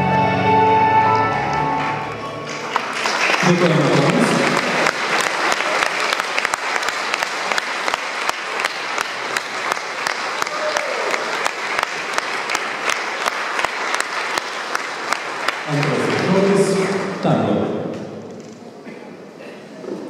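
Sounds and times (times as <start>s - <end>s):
audience applauding: 1.1s - 17.7s.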